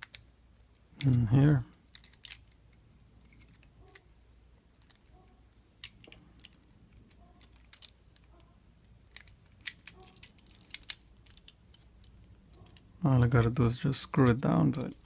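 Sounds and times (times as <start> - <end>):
toy car parts clicking: 0.0 - 12.9.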